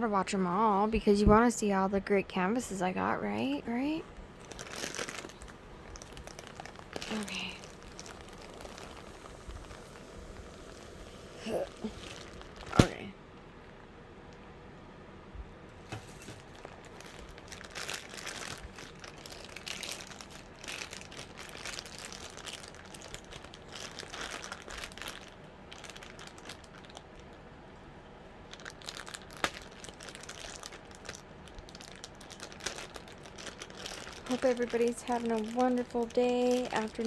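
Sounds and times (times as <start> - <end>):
packaging crinkling and rustling: 3.4 - 13.1, 15.8 - 27.4, 28.5 - 37.0.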